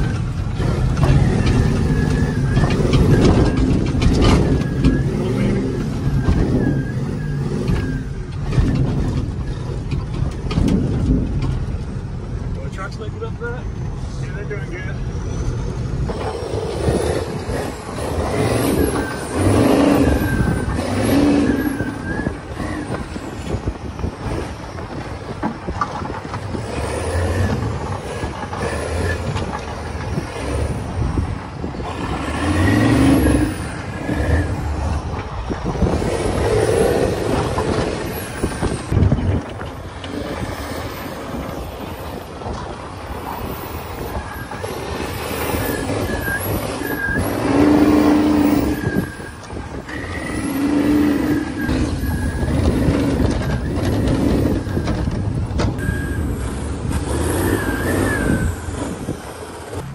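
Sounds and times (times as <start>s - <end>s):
tyre noise: 0.0s - 12.9s, 14.1s - 59.9s
truck engine running: 0.0s - 59.9s.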